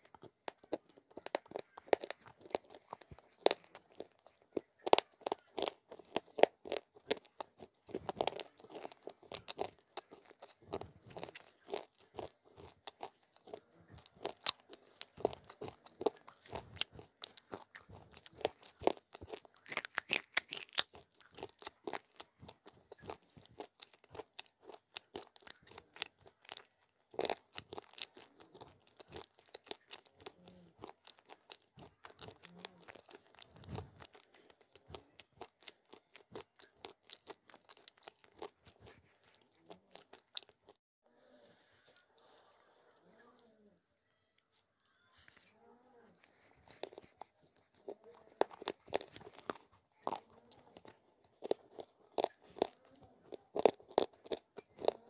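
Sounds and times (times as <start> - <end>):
chewing with dry crunches: 0.0 - 55.0.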